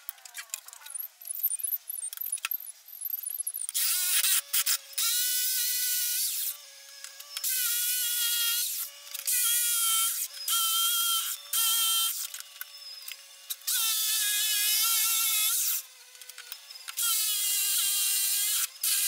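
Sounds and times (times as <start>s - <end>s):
jigsaw motor whine: 3.5s - 19.0s.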